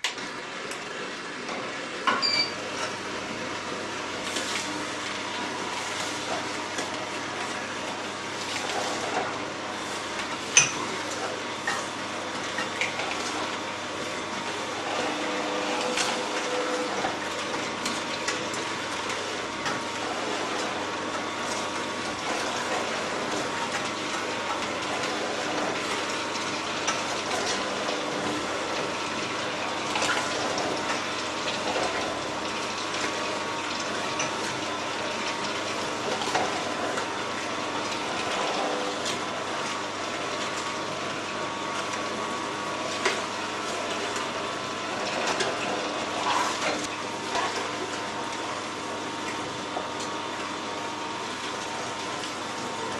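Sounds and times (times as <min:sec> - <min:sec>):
juicer motor and gear hum: 0:00.0 - 0:52.9.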